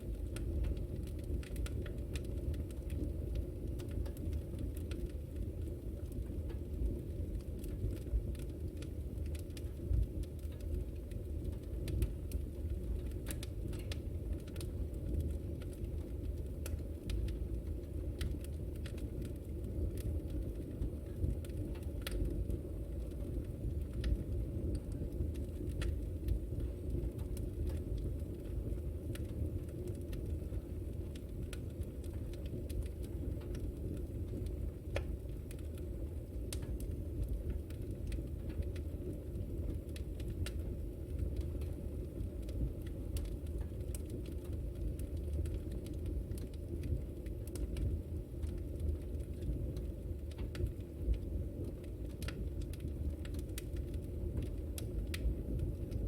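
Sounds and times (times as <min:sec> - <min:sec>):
fire burning with low rumble: 0:00.0 - 0:56.0
wood crackling and popping: 0:00.0 - 0:56.0.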